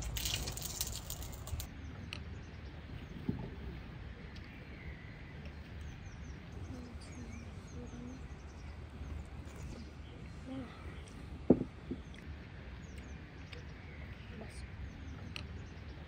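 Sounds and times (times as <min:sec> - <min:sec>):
low background rumble: 0:00.0 - 0:16.0
small birds chirping: 0:00.0 - 0:16.0.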